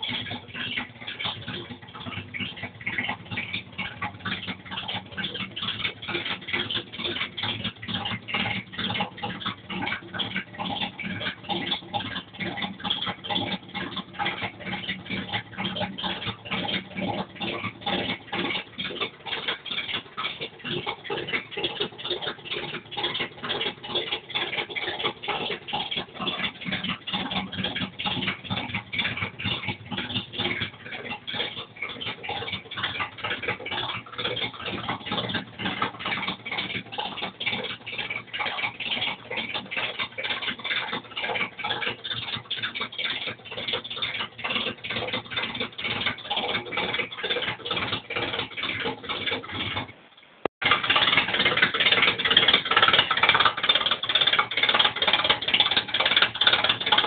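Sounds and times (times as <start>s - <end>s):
car engine running: 0.0s - 57.0s
engine ticking clatter: 0.0s - 57.0s.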